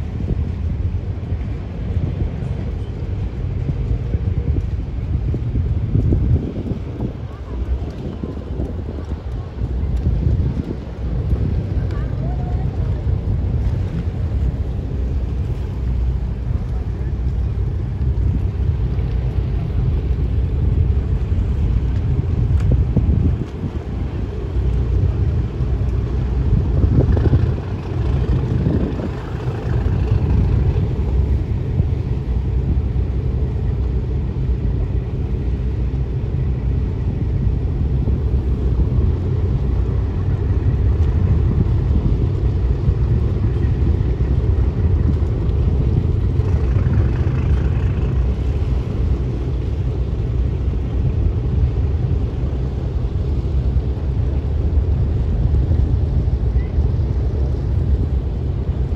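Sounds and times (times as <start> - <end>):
ferry engines rumbling: 0.0 - 58.9.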